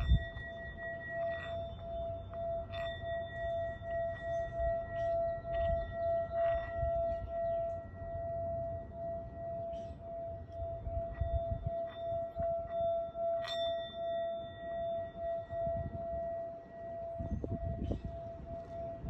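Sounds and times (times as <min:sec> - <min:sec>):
steady ringing tone: 0:00.0 - 0:19.0.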